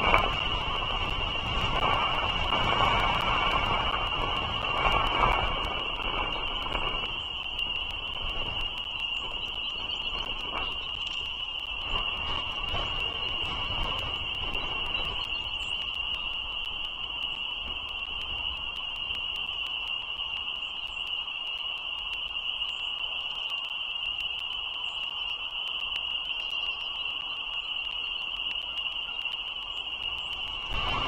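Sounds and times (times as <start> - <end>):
faint ticks: 0.0 - 31.0.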